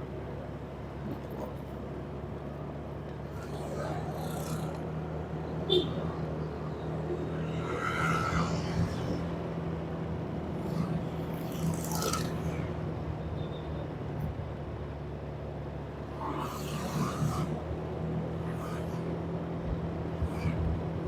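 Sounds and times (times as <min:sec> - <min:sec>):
traffic noises: 0:00.0 - 0:21.0
vehicle engine humming: 0:00.0 - 0:21.0.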